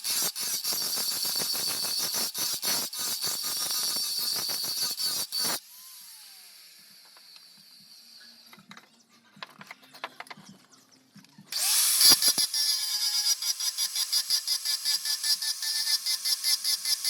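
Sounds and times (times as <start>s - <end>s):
power tool motor whine: 0.0s - 8.5s, 11.5s - 17.0s.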